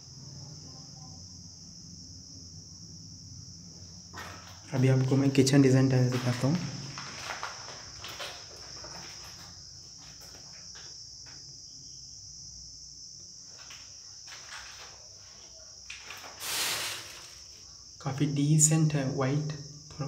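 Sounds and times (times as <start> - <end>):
insect chirring: 0.0 - 20.0.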